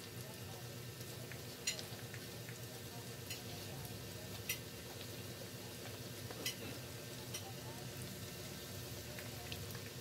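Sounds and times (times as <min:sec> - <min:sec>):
chicken frying in oil sizzling: 0:00.0 - 0:10.0.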